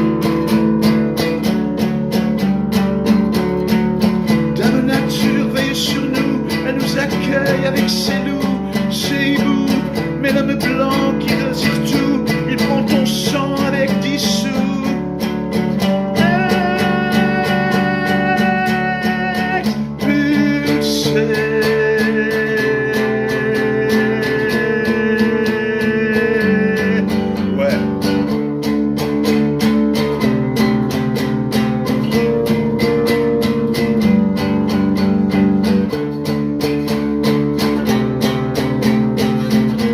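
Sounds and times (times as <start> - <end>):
acoustic guitar strumming: 0.0 - 39.9
person singing folk song: 0.0 - 39.9.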